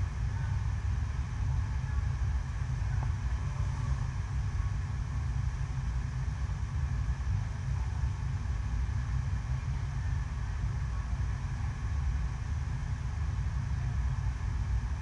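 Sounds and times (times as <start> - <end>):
deep steady pump rumble: 0.0 - 15.0.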